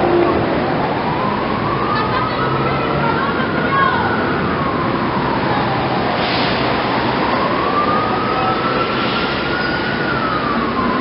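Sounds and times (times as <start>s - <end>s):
emergency vehicle siren wailing: 0.0s - 11.0s
street noise: 0.0s - 11.0s.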